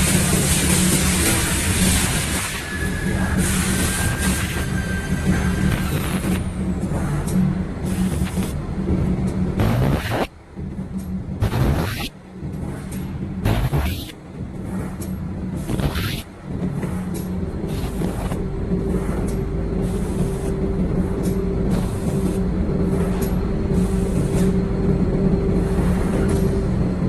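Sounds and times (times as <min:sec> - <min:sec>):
welding machine hum: 0:00.0 - 0:10.3, 0:11.4 - 0:27.0.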